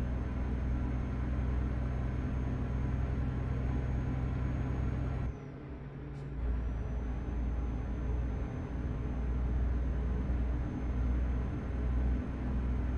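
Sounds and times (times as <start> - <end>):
truck engine drone in cab: 0.0 - 12.9.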